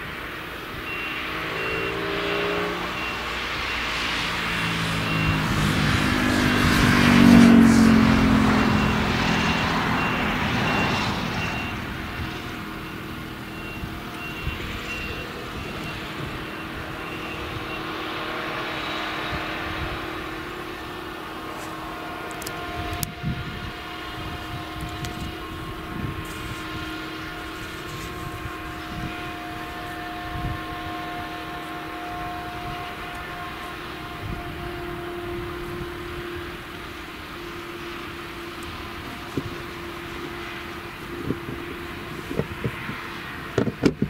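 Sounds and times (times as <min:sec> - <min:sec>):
diesel engine running: 0:00.0 - 0:44.0
reversing alarm beeping: 0:00.6 - 0:42.3.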